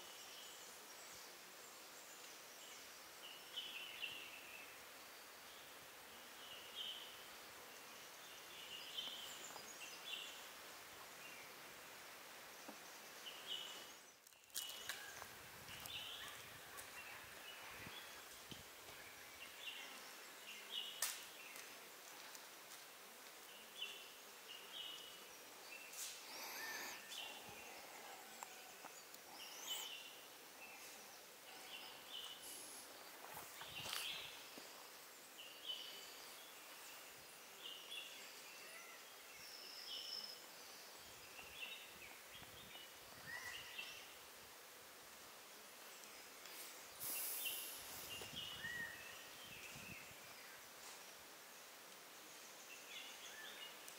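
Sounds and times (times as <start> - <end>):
soft background hiss: 0.0 - 53.9.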